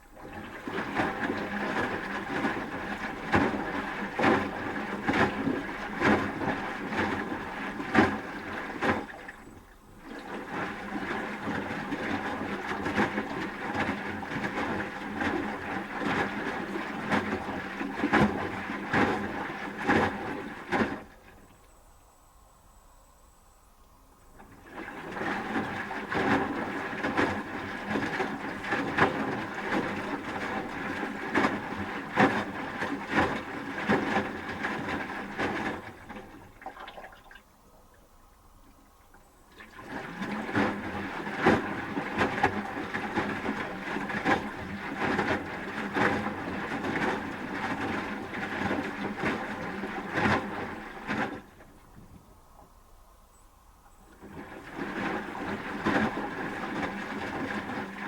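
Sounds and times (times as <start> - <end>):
washing machine drum sloshing: 0.0 - 21.5, 24.4 - 37.5, 38.6 - 52.8, 54.1 - 58.0.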